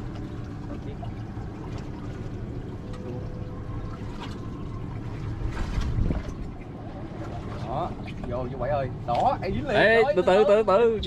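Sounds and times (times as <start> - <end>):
low rumble: 0.0 - 9.7
water lapping against boat hull: 0.0 - 10.8.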